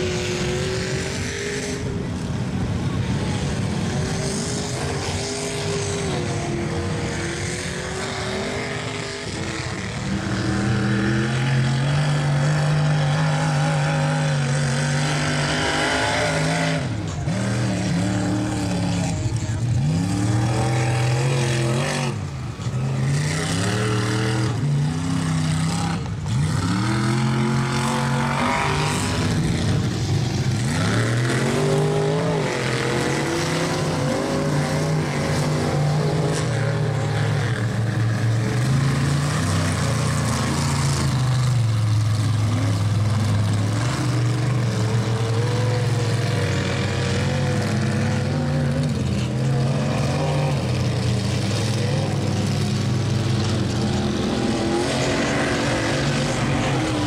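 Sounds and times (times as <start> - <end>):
tires throwing mud and water: 0.0 - 57.0
truck engine revving: 0.0 - 57.0.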